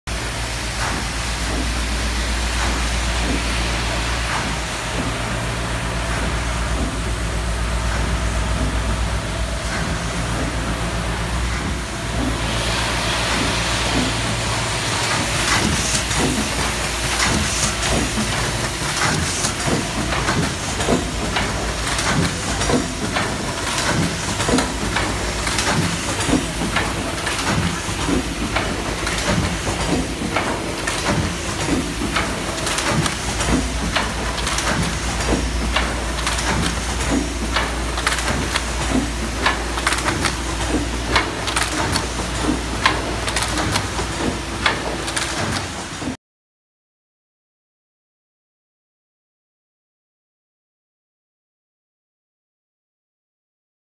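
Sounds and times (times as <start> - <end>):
machine humming with hissing: 0.1 - 46.1.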